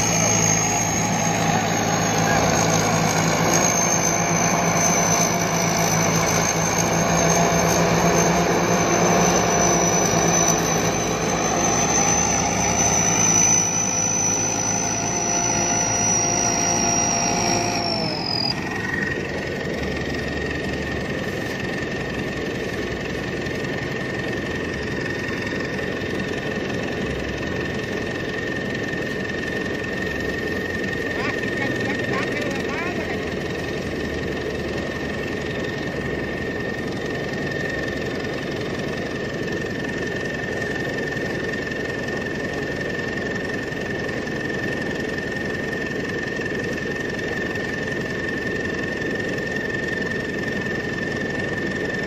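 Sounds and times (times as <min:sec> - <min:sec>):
harvester engine running: 0:00.0 - 0:52.0
high whine: 0:00.0 - 0:52.0.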